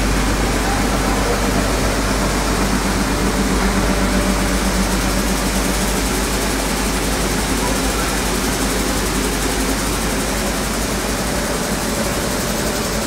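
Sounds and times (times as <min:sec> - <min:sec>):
flour mill machine hum: 0:00.0 - 0:13.0.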